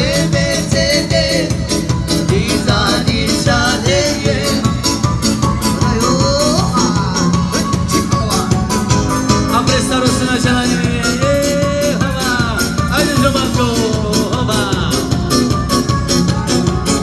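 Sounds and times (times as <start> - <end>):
man singing into a microphone: 0.0 - 5.0, 5.6 - 15.4
bass guitar: 0.0 - 17.0
drum beat: 0.0 - 17.0
electric guitar: 0.0 - 17.0.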